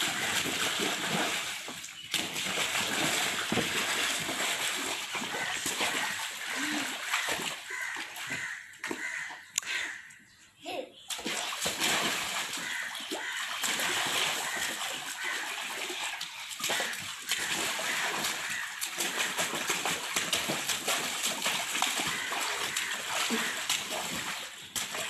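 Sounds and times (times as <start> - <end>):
child splashing water in pool: 0.0 - 10.1, 10.7 - 25.0.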